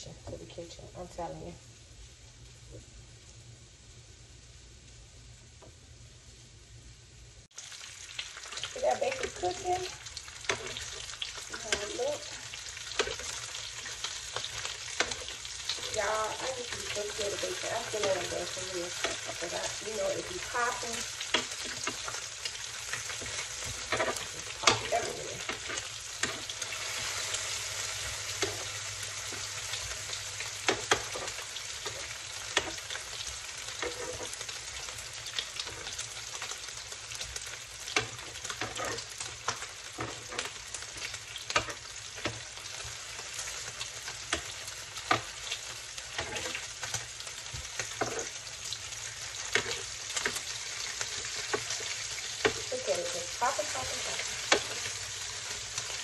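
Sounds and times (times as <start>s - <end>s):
bacon sizzling: 0.6s - 56.0s.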